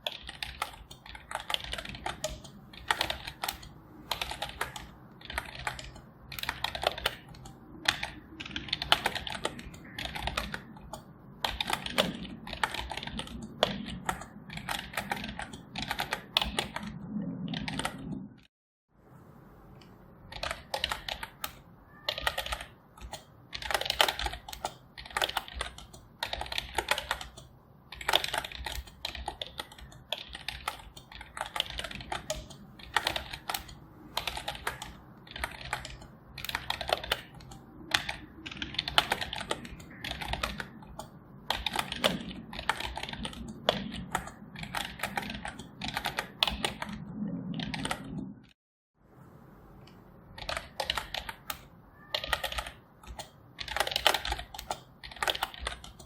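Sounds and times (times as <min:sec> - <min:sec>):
typing on computer keyboard: 0:00.0 - 0:18.3, 0:20.3 - 0:48.3, 0:50.4 - 0:56.0.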